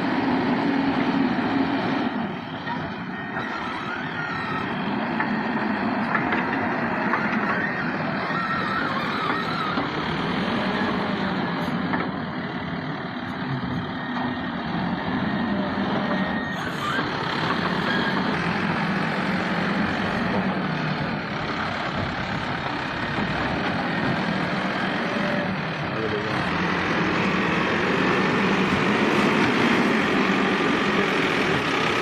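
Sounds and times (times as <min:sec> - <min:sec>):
heavy machinery diesel engine running: 0:00.0 - 0:32.0.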